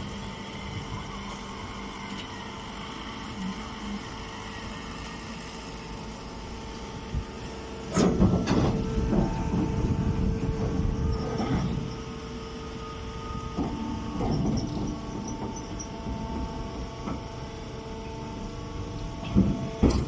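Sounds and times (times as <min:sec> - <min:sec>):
baler motor humming: 0:00.0 - 0:20.0.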